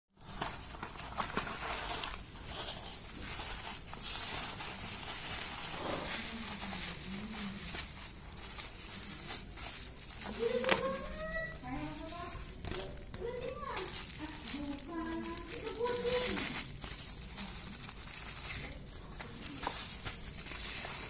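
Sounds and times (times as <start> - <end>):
bubble wrap crinkling: 0.2 - 21.0
small crackles: 0.2 - 21.0.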